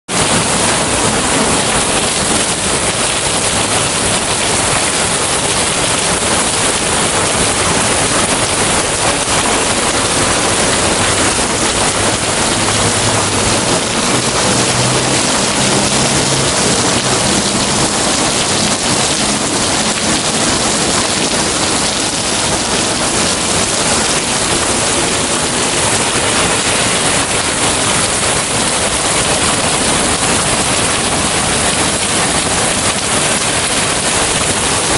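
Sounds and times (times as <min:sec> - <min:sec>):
heavy rain on street: 0:00.1 - 0:34.9.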